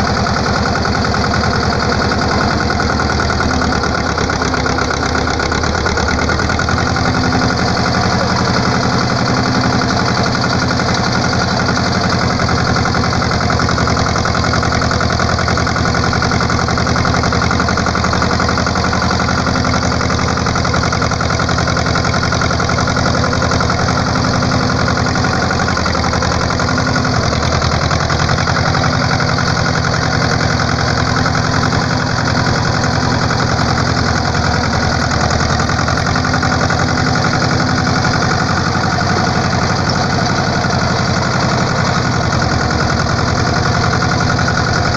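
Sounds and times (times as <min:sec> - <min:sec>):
engine humming steadily: 0:00.0 - 0:44.9.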